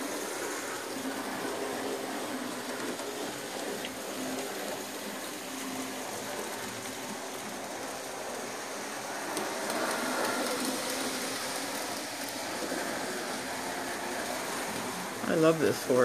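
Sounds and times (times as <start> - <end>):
model trains running on track: 0.0 - 16.0.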